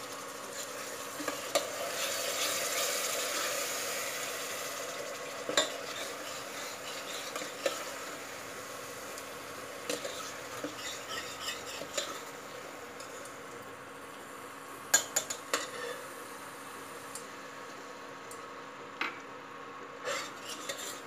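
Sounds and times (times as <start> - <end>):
spices sizzling in a pot: 0.0 - 18.6, 20.0 - 21.0.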